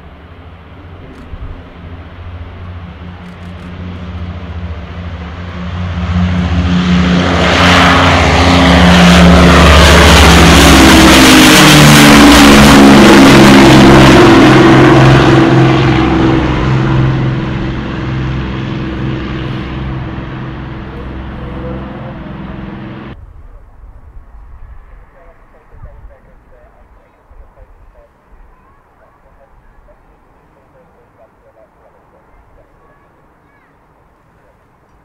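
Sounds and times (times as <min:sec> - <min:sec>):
propeller aircraft engines droning overhead: 0:00.0 - 0:35.0.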